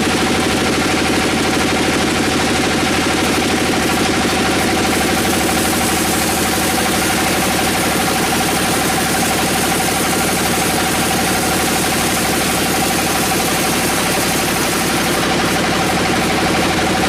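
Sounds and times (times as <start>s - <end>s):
engine running steadily: 0.0s - 17.0s
steady engine whine: 0.0s - 17.0s.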